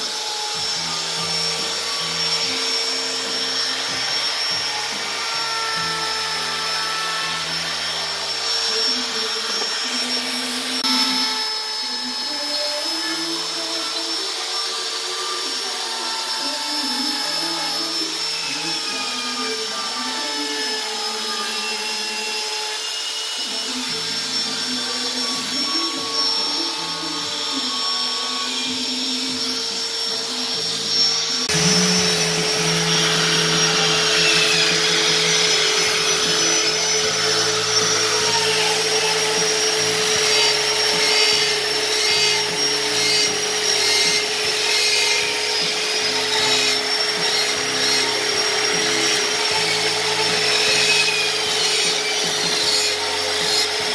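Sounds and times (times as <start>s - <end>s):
die grinder motor whine: 0.0s - 53.9s.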